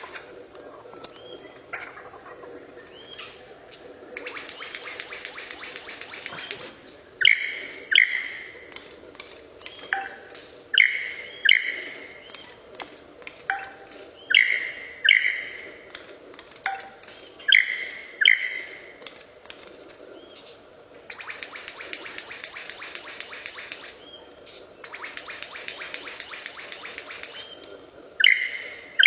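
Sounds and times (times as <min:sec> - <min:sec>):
bird calling: 0:00.0 - 0:29.0.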